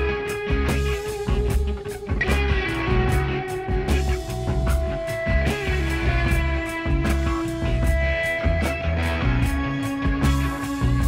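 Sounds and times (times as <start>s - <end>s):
bass line: 0.0s - 11.0s
electric guitar held notes: 0.0s - 11.0s
steady drum beat: 0.0s - 11.0s.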